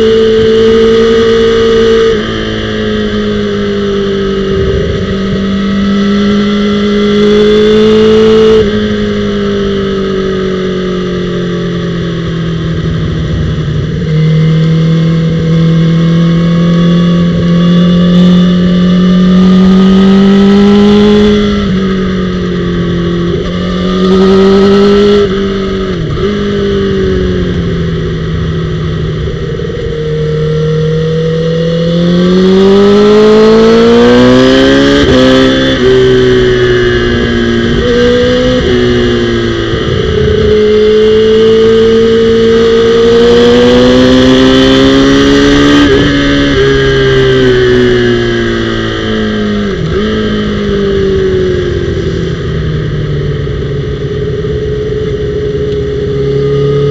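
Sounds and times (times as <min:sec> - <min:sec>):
motorcycle engine at speed: 0:00.0 - 0:56.9.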